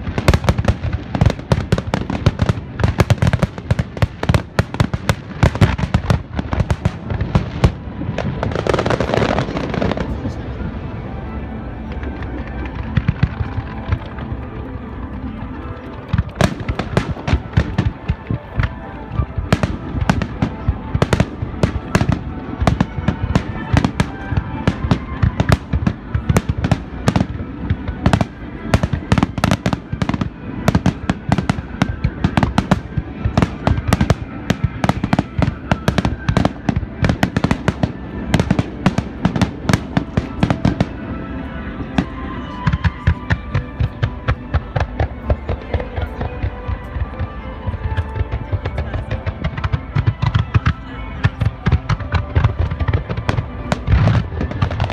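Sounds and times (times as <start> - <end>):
fireworks bursting: 0.0 - 10.5, 11.8 - 54.9
faint music: 0.0 - 54.9.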